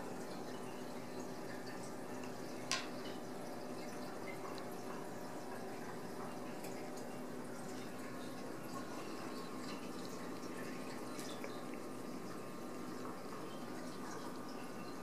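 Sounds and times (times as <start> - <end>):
household hum and hiss: 0.0 - 15.0.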